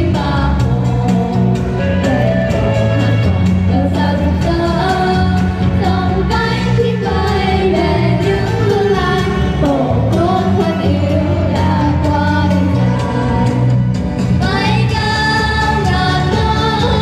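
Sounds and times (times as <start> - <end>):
girls singing into microphones: 0.0 - 2.1, 3.7 - 17.0
backing track music: 0.0 - 17.0.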